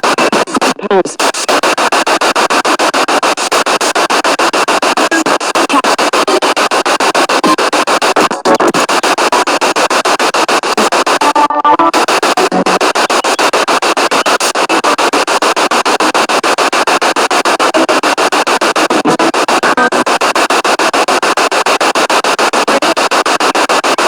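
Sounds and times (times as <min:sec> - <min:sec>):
pulsing radio static hiss: 0:00.0 - 0:24.0.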